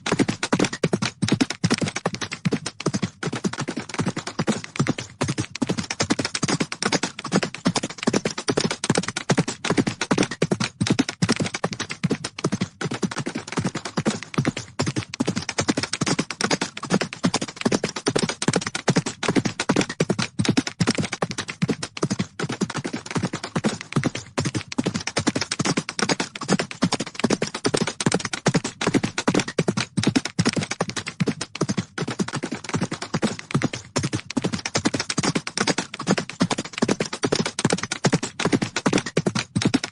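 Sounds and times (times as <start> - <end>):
horses' hooves galloping: 0.0 - 39.9.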